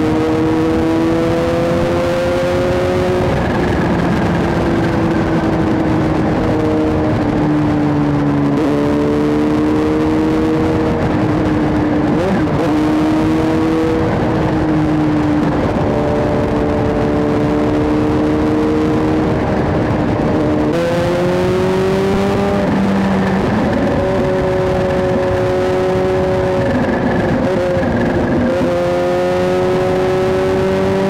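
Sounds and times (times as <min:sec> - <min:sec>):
loud motorcycle exhaust: 0:00.0 - 0:31.0.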